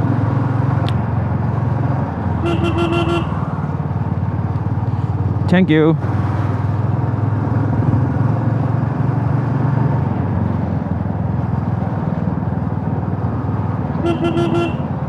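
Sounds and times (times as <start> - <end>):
motorcycle engine running: 0.0 - 8.7, 10.2 - 15.0
road noise: 0.0 - 15.0.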